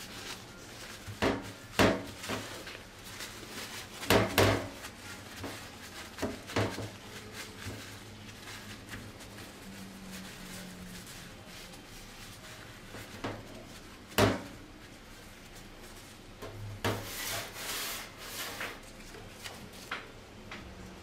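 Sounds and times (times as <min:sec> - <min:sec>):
paper crinkling: 0:00.0 - 0:20.2
paper towel patting raw meat: 0:00.0 - 0:20.7.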